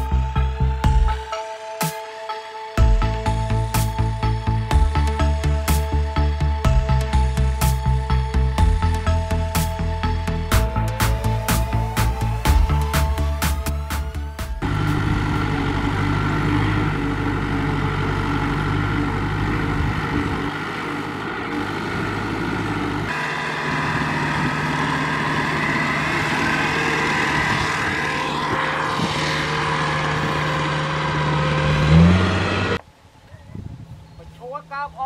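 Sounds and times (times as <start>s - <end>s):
tractor diesel engine running: 0.0s - 32.8s.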